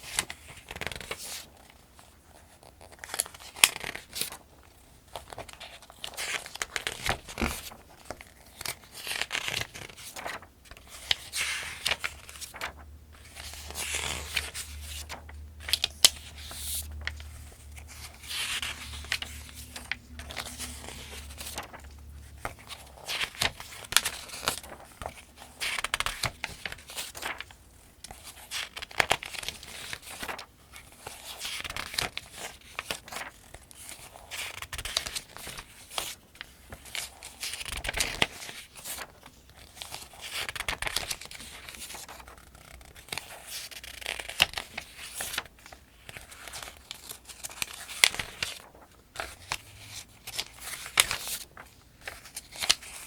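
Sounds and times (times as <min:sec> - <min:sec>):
paper pages turning: 0:00.0 - 0:53.0.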